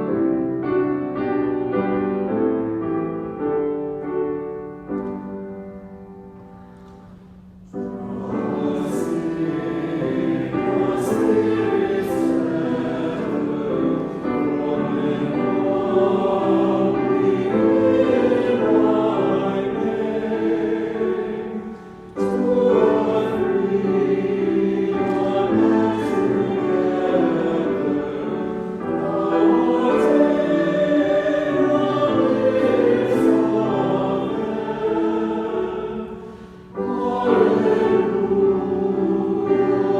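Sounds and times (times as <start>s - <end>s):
choir singing: 7.7s - 39.9s.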